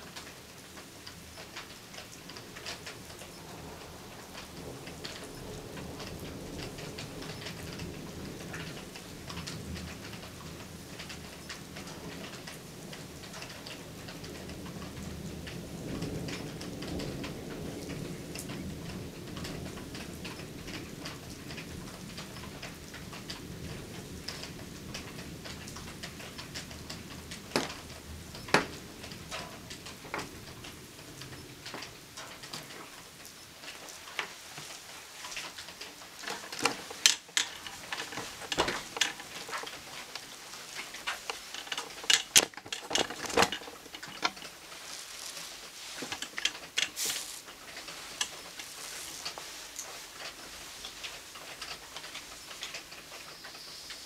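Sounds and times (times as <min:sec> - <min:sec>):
raindrops pattering: 0:00.0 - 0:54.0.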